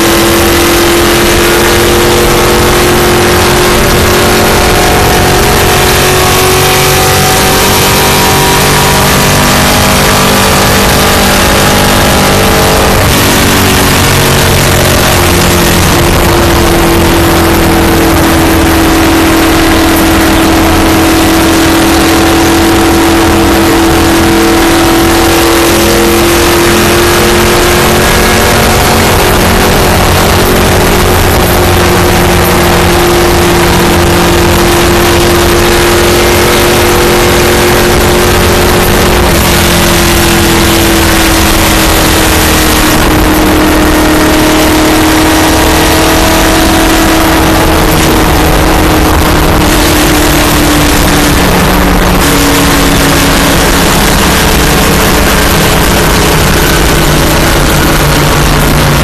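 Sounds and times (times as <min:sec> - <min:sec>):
race car engine drone: 0:00.0 - 0:59.0
road and wind noise: 0:00.0 - 0:59.0.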